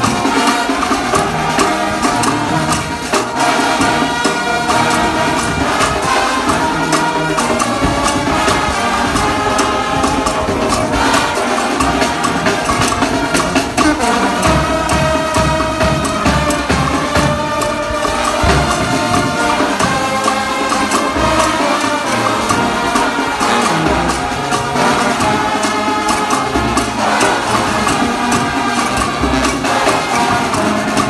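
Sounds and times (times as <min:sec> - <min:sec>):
brass band playing: 0:00.0 - 0:31.0
percussion beat: 0:00.0 - 0:31.0.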